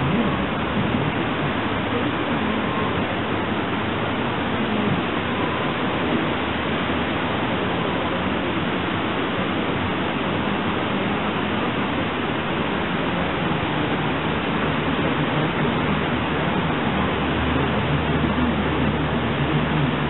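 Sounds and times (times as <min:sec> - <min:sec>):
faint low hum: 0:00.0 - 0:20.0
river rushing over a dam: 0:00.0 - 0:20.0.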